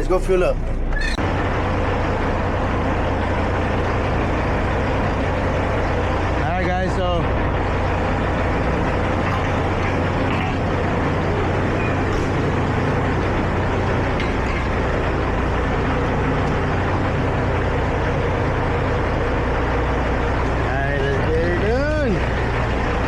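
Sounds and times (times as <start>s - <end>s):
road noise: 0.0s - 23.0s
truck diesel engine drone: 0.0s - 23.0s.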